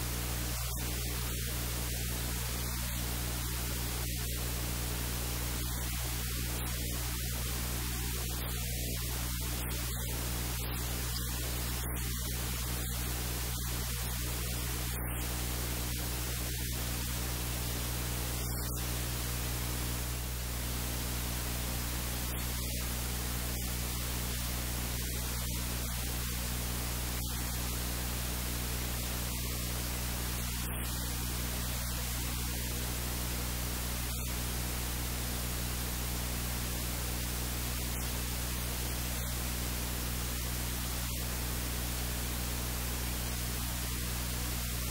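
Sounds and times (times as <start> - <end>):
electrical hum: 0.0 - 44.9
steady hiss: 0.0 - 44.9.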